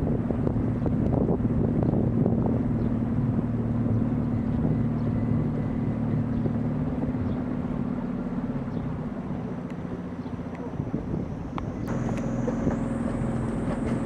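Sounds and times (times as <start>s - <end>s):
boat motor humming: 0.0s - 14.0s.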